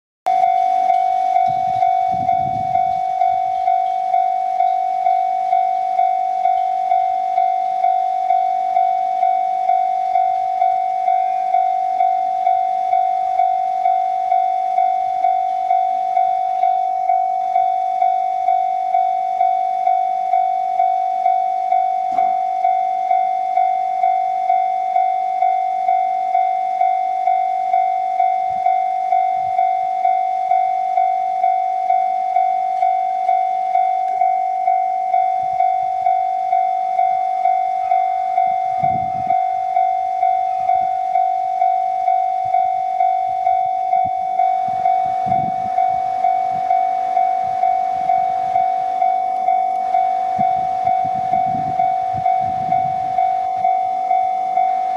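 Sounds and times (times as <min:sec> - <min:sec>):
level-crossing warning bell: 0:00.3 - 0:54.9.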